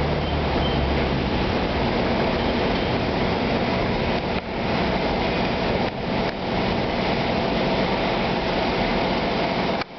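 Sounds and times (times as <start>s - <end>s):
subway train running: 0.0s - 9.9s.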